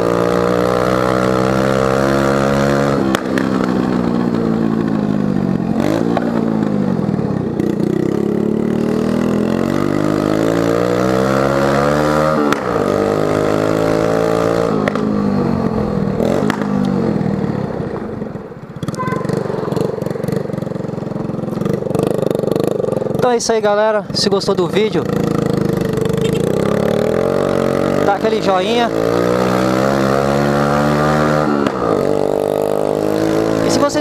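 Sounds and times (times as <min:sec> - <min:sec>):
scooter engine revving: 0:00.0 - 0:34.0.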